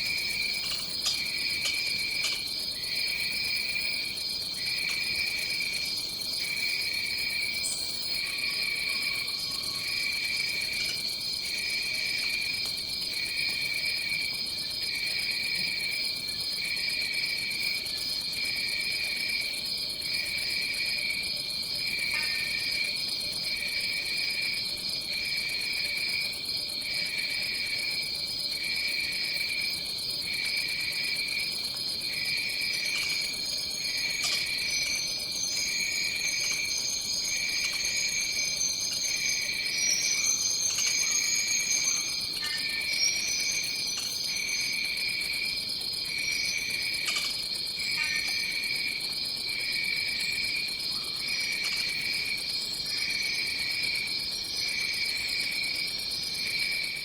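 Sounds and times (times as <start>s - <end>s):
high fluttering insect trill: 0.0s - 14.2s, 21.9s - 56.9s
lower pulsing insect call: 0.0s - 57.0s.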